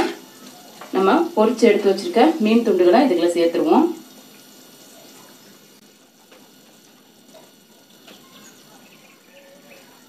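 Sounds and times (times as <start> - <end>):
curry bubbling in a pan: 0.0 - 10.0.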